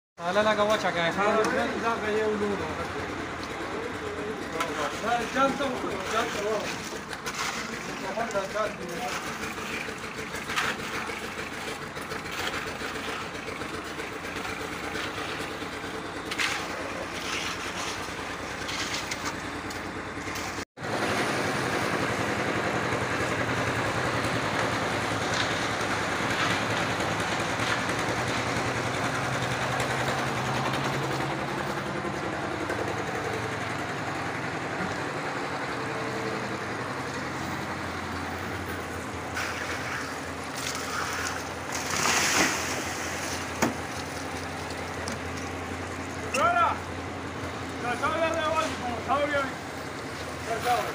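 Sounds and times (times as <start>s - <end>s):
engine running: 0.2s - 50.9s.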